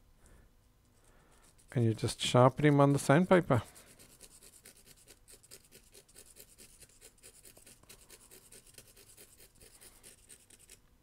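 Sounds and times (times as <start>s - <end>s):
pencil scratching on sandpaper: 1.0s - 10.8s.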